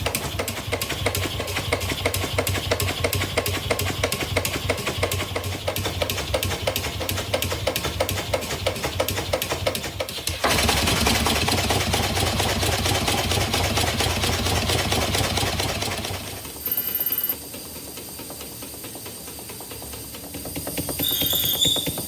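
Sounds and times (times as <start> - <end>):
small model engine running: 0.0 - 17.5, 20.4 - 22.0.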